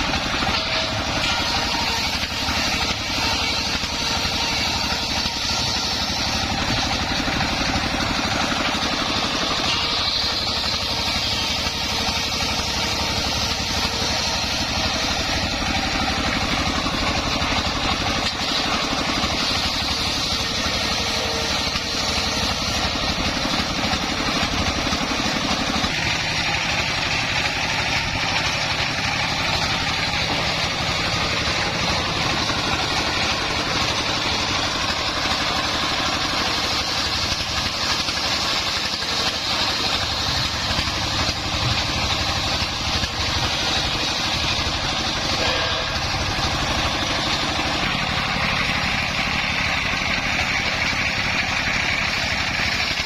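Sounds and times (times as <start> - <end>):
engine-powered circular saw running: 0.0 - 53.0.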